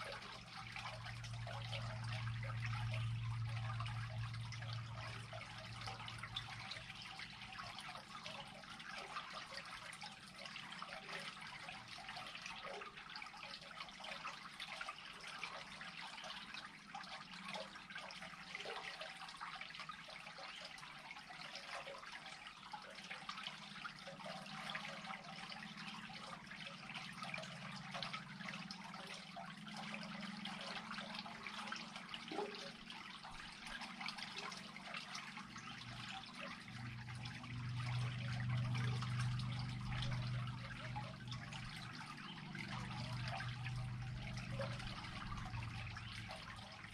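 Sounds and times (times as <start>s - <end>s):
running water: 0.0s - 46.9s
small drips: 0.0s - 46.9s.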